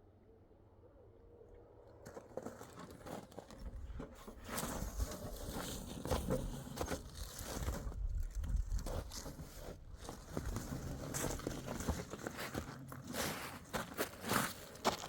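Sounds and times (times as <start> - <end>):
irregular crunches and rustles: 2.0 - 15.0.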